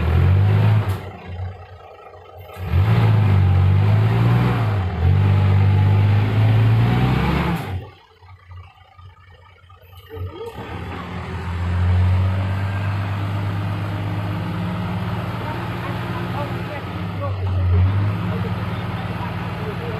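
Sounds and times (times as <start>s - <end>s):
diesel truck engine under load: 0.0s - 19.9s.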